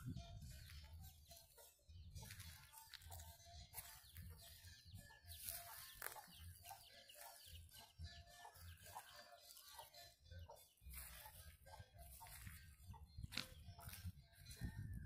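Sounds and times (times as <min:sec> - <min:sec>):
hen clucking: 0:00.0 - 0:15.0.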